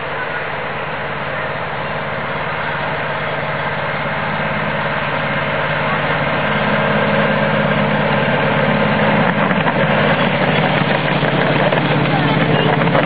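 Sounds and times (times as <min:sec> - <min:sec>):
miniature train engine hum: 0:00.0 - 0:13.0.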